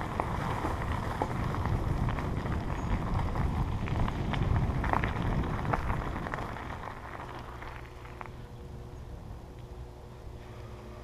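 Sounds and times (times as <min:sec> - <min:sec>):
wind on microphone: 0:00.0 - 0:09.4
bicycle tyres on gravel: 0:00.0 - 0:11.0.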